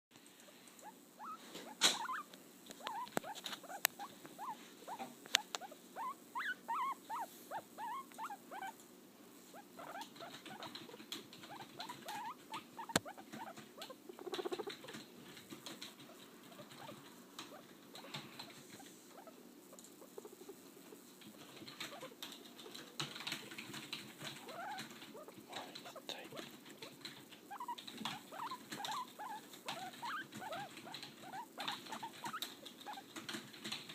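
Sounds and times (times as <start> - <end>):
light pattering: 0.2 - 8.9, 9.5 - 33.9
guinea pig squeaking: 0.8 - 8.8, 9.5 - 33.9.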